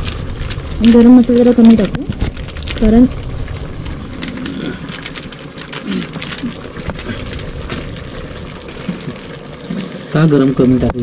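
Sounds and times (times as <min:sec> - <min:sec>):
light metallic clicks and clinks: 0:00.0 - 0:11.0.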